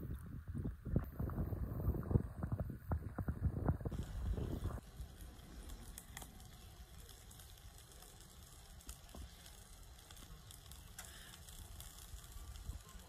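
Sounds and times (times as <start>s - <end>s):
light crackly hiss: 0.0s - 13.0s
low fluctuating rumble: 0.0s - 13.0s.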